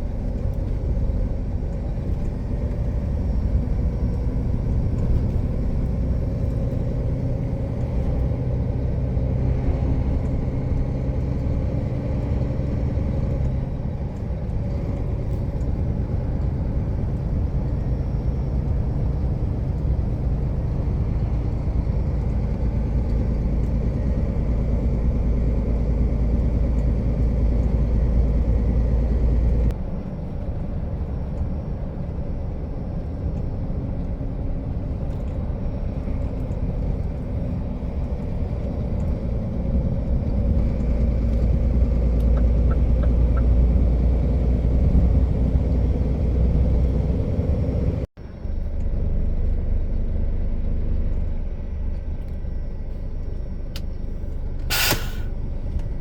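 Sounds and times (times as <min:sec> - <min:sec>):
road noise: 0:00.0 - 0:56.0
truck engine rumble: 0:00.0 - 0:56.0.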